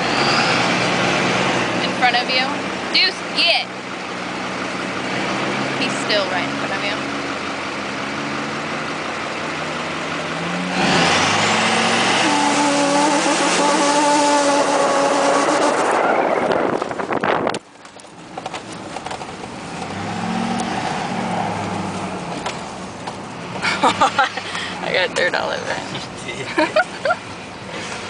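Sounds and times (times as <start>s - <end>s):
diesel engine revving: 0.0s - 17.6s, 19.0s - 28.0s.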